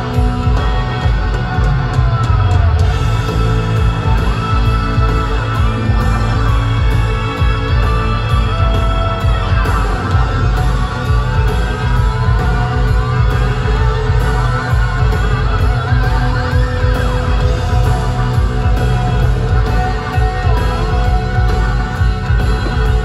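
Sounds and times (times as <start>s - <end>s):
heavy bass: 0.0s - 23.0s
live rock band playing: 0.0s - 23.0s
sliding guitar lines: 0.0s - 23.0s.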